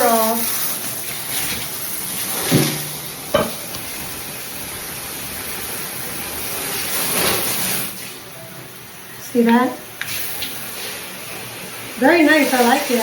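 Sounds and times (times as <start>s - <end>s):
shower spray hissing: 0.0s - 8.2s, 10.0s - 13.0s.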